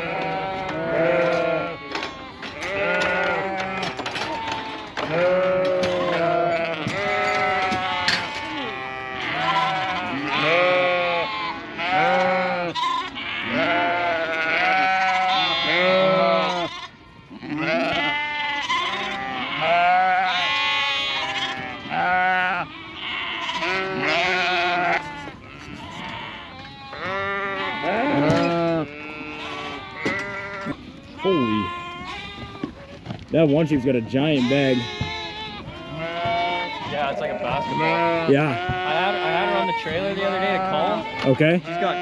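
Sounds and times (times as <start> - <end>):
sheep bleating: 0.0 - 42.0.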